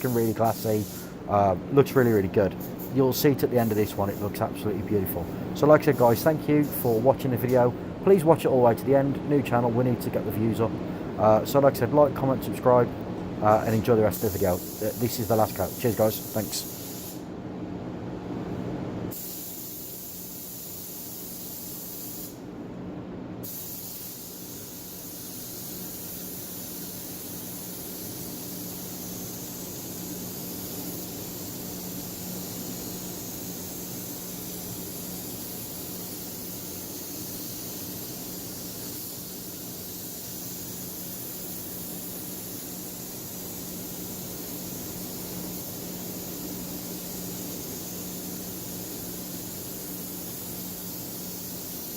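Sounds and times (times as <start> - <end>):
spray gun hissing: 0.0 - 1.2, 1.9 - 7.6, 13.6 - 17.3, 19.1 - 22.4, 23.4 - 51.9.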